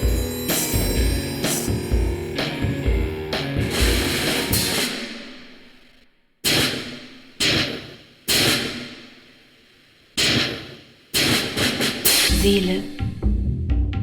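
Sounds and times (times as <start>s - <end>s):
sharp crash-like percussive hits: 0.0s - 9.2s, 10.2s - 12.5s.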